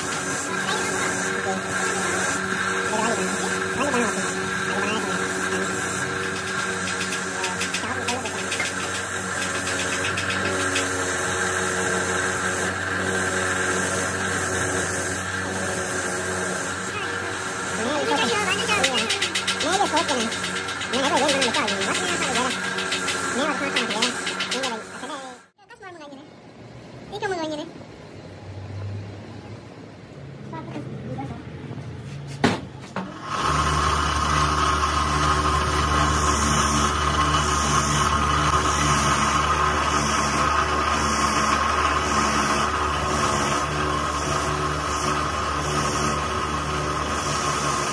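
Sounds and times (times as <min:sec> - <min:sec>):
wire brush scratching metal: 0:00.0 - 0:25.4, 0:33.4 - 0:47.9
bench motor humming: 0:00.0 - 0:25.5, 0:33.1 - 0:47.9.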